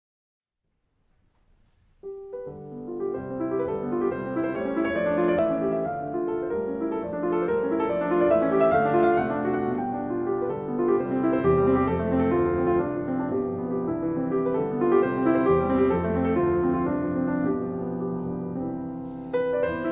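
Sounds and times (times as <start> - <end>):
piano music: 1.4 - 19.9.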